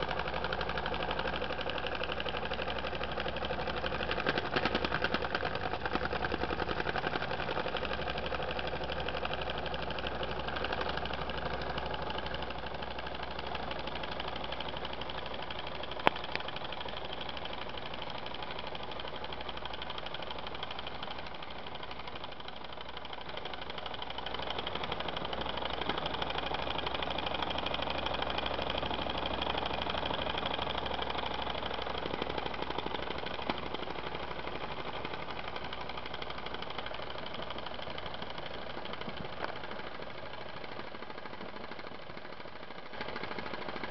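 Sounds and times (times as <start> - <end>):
model steam engine chuffing: 0.0 - 43.9.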